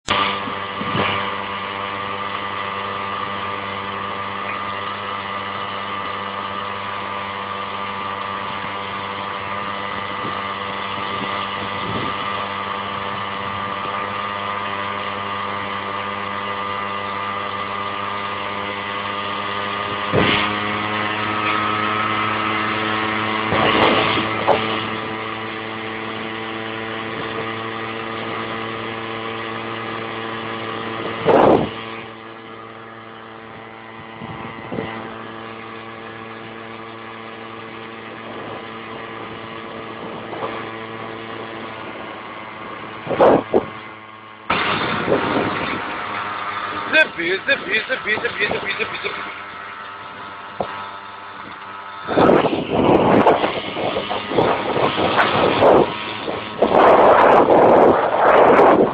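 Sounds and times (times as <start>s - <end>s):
vehicle engine humming: 0.0s - 58.9s.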